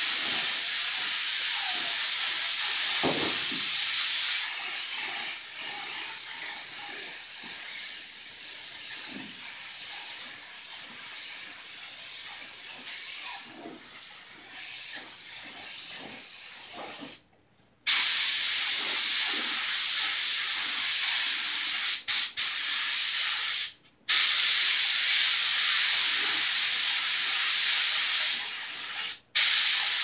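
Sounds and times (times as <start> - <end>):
paint spray gun hissing: 0.0 - 17.2, 17.9 - 30.0.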